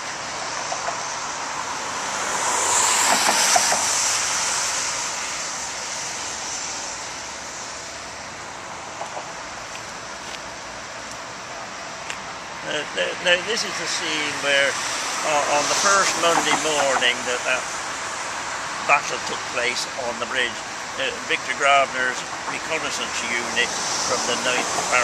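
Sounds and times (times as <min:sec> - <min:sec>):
vehicle passing: 0:00.0 - 0:10.4, 0:12.4 - 0:25.0
traffic hum: 0:00.0 - 0:25.0.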